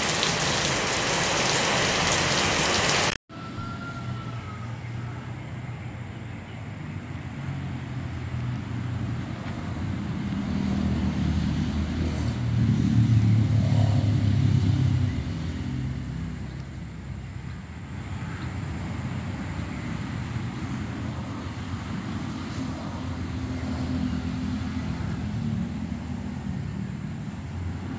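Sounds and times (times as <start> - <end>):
vehicle engine passing by: 3.4 - 27.9.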